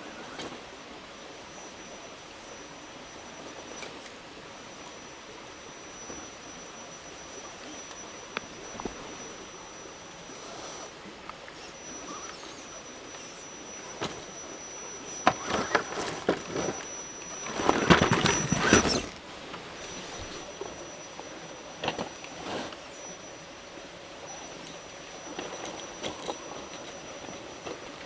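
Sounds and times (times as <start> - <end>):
high-pitched whine: 0.0 - 28.0.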